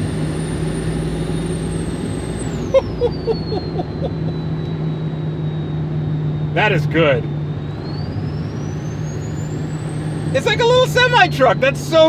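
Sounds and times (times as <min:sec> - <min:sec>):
high turbo whistle: 0:00.0 - 0:11.7
diesel engine drone: 0:00.0 - 0:12.0.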